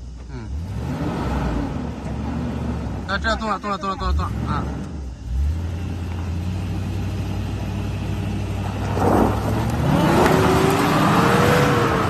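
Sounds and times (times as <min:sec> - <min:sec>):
engine revving: 0:00.4 - 0:12.0.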